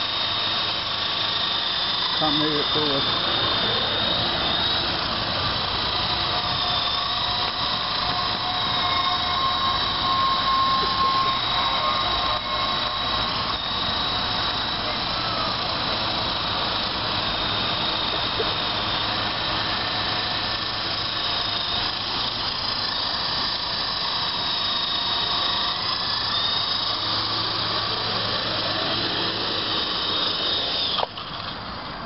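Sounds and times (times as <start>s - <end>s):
toy helicopter motor whining: 0.0s - 32.0s.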